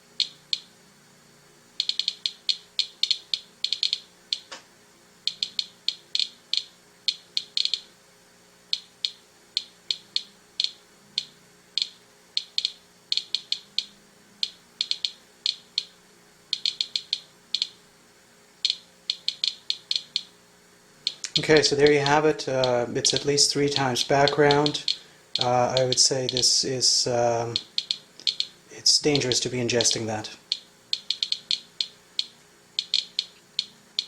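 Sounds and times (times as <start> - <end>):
geiger counter clicking: 0.1 - 0.7, 1.8 - 4.6, 5.2 - 7.9, 8.7 - 17.8, 18.6 - 20.4, 21.0 - 26.7, 27.4 - 34.0.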